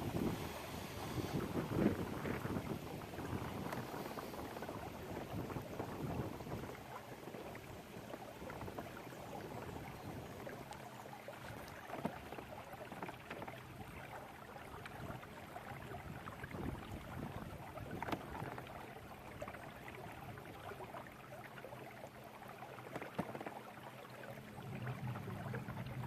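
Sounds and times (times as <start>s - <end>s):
water lapping against a kayak: 0.0s - 26.0s.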